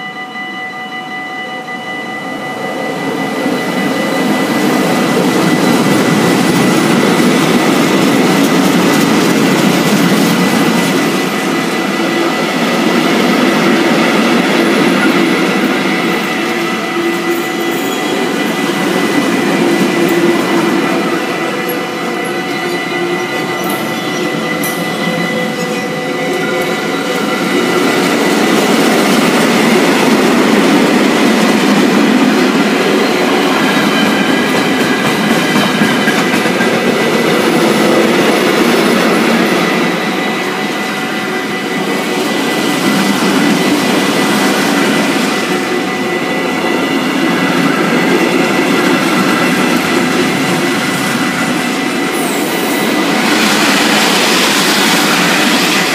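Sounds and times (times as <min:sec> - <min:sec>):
freight wagons rumbling on rails: 0:02.8 - 0:55.9.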